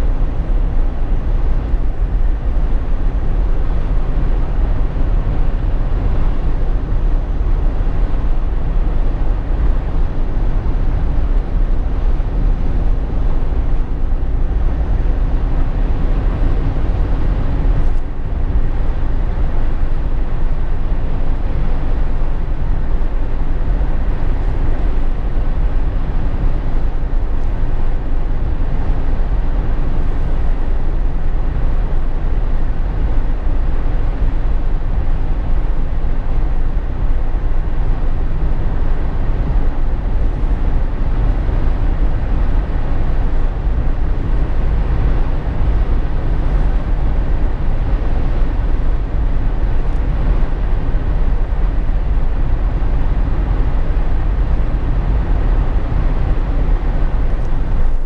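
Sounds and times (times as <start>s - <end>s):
engine and road rumble: 0.0s - 58.0s
wind and tyre noise: 0.0s - 58.0s.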